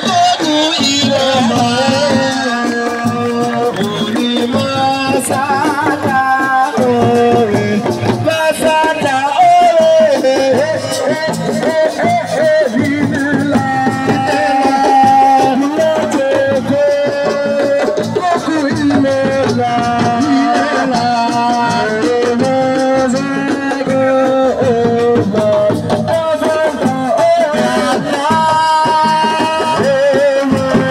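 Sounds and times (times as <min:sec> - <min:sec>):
drums: 0:00.0 - 0:30.9.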